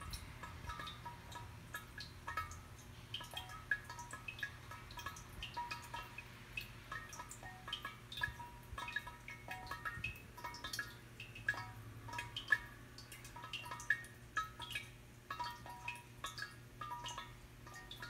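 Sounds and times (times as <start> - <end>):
water drops ringing in clay vessel: 0.0 - 18.0.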